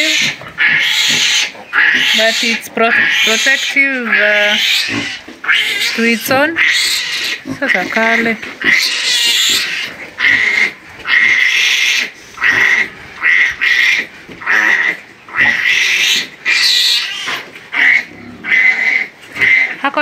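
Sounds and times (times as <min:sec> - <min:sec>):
piglet squealing: 0:00.0 - 0:19.9.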